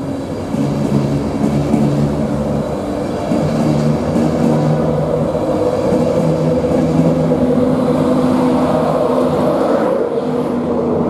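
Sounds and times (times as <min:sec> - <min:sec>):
electric locomotive passing: 0:00.0 - 0:11.0
steady multi-tone hum: 0:00.0 - 0:11.0
train coaches rolling on rails: 0:00.0 - 0:11.0.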